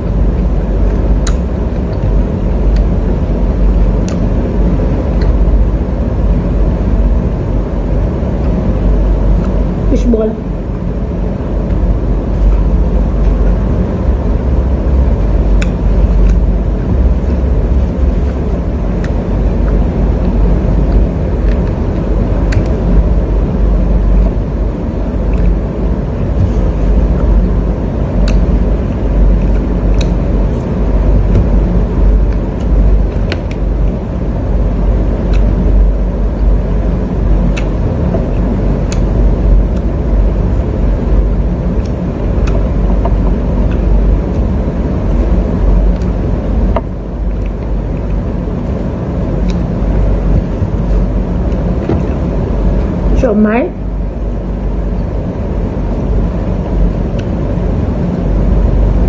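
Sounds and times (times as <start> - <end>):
low rumbling noise: 0.0 - 59.0.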